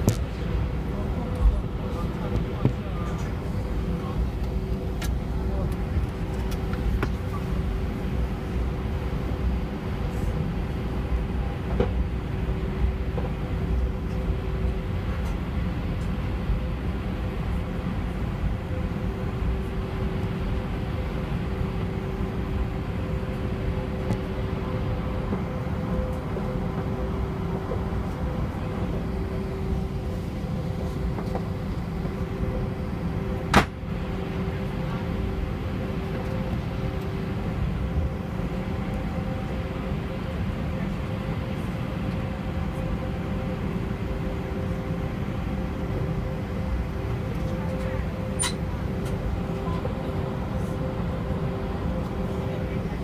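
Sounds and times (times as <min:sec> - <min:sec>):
aircraft engine hum: 0:00.0 - 0:53.0.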